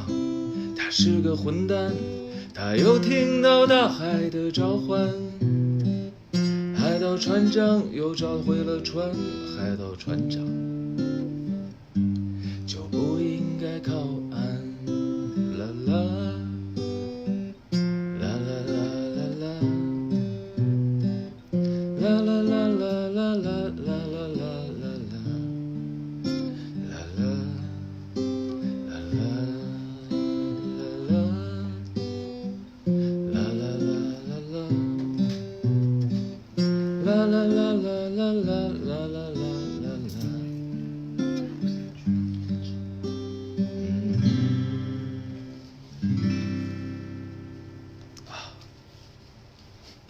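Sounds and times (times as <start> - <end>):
acoustic guitar strumming: 0.0 - 49.2.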